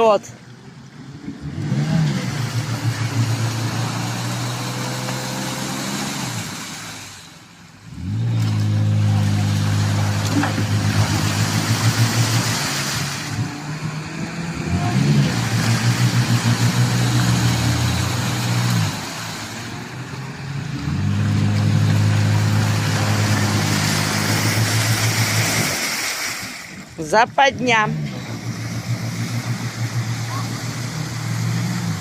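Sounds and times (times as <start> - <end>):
off-road vehicle engine revving: 0.0 - 32.0.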